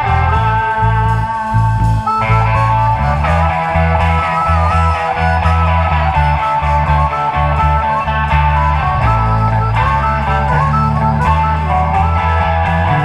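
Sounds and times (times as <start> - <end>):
blues band playing: 0.0 - 13.0
harmonica bending notes: 0.0 - 13.0.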